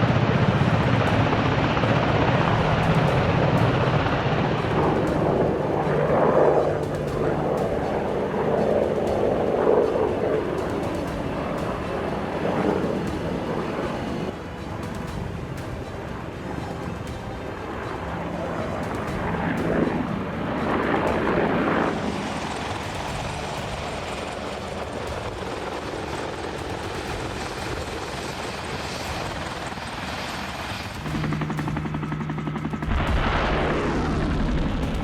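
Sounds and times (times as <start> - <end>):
helicopter rotor and turbine drone: 0.0 - 35.0.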